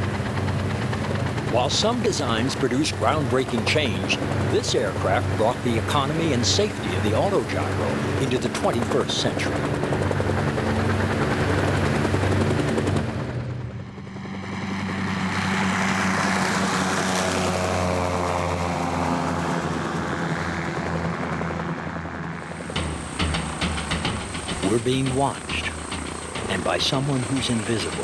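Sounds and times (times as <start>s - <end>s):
aircraft engine drone: 0.0s - 28.0s
helicopter rotor chop: 0.0s - 28.0s.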